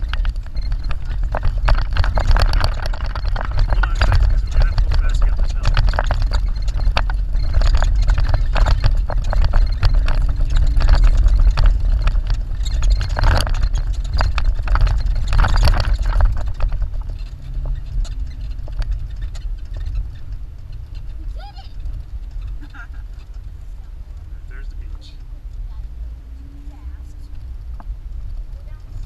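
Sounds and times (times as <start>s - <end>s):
engine rumble under load: 0.0s - 29.0s
vehicle knocking and rattling: 0.0s - 29.0s.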